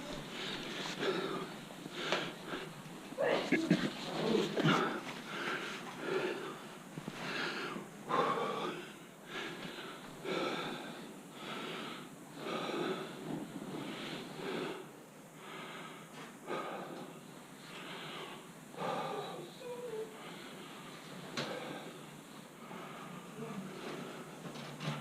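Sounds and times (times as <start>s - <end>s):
person breathing heavily: 0.0s - 25.0s.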